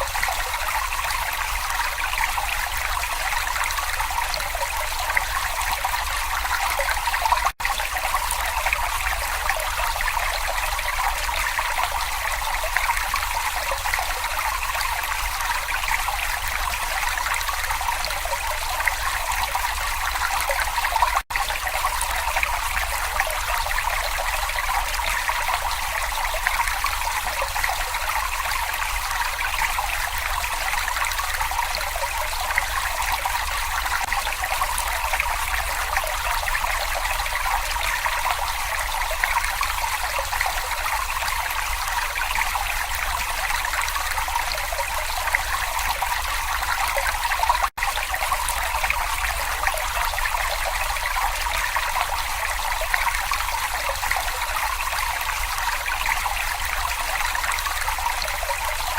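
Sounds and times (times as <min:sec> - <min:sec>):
water trickling over stones: 0:00.0 - 0:58.9.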